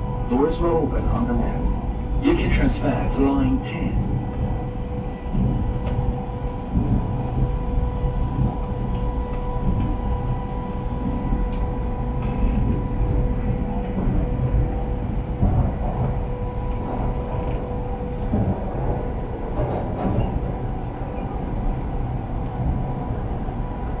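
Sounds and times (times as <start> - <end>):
high whine: 0.0 - 24.0
subway wheels rumbling on rail: 0.0 - 24.0.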